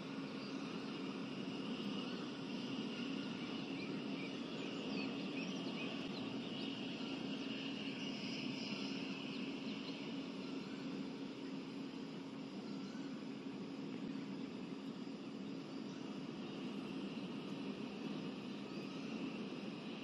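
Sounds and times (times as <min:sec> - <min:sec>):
constant low hum: 0:00.0 - 0:20.0
faint bird chirps: 0:00.1 - 0:20.0.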